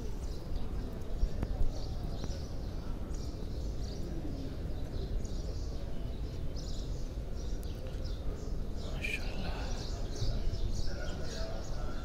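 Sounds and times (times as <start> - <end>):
large hall background noise: 0.0 - 12.0
small birds chirping: 0.0 - 12.0.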